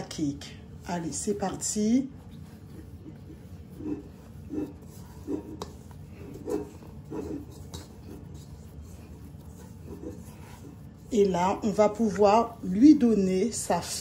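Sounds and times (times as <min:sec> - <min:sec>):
hands kneading dough: 0:00.0 - 0:14.0.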